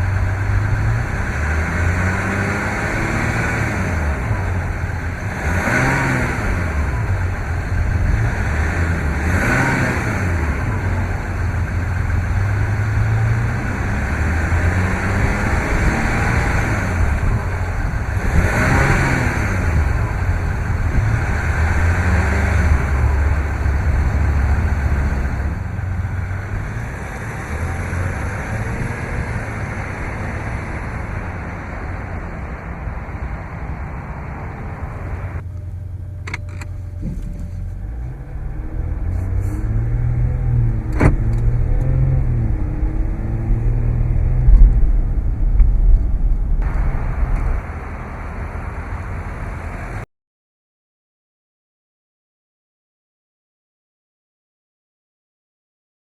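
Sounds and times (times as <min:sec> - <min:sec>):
vehicle engine running: 0:00.0 - 0:50.0
road noise: 0:00.0 - 0:50.1.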